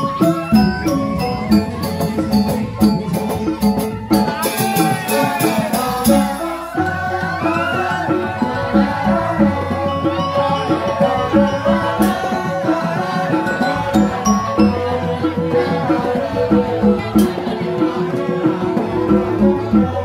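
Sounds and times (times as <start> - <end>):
drum pattern: 0.0 - 20.0
gamelan keyed instruments: 0.0 - 20.0.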